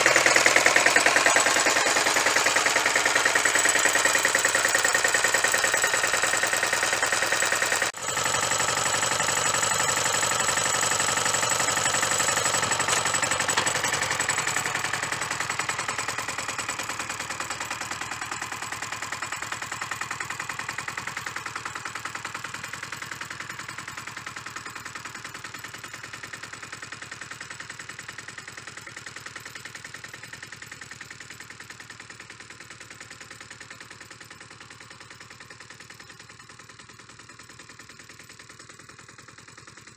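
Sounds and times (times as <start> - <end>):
two-wheel tractor engine pulsing: 0.0 - 39.9.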